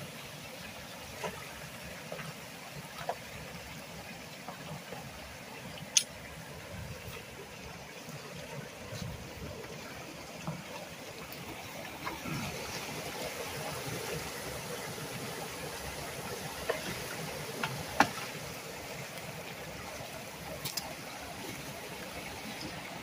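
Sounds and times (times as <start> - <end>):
water rushing into culvert: 0.0 - 23.0
water splashing: 0.6 - 23.0.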